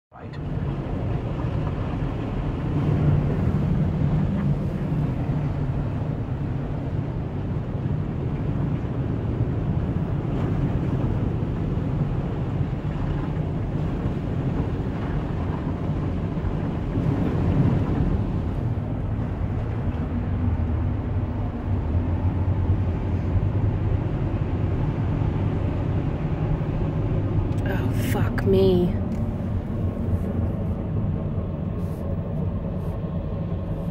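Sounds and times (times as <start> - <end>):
car engine hum: 0.1 - 33.9.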